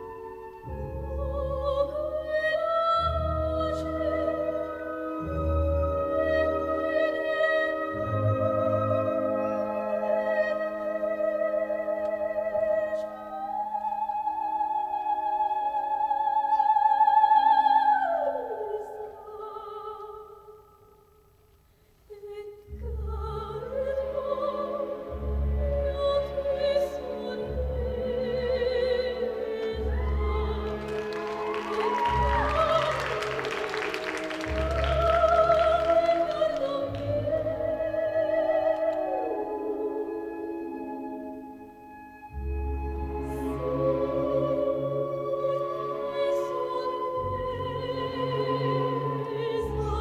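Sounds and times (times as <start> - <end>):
dramatic classical music: 0.0 - 20.3, 22.2 - 50.0.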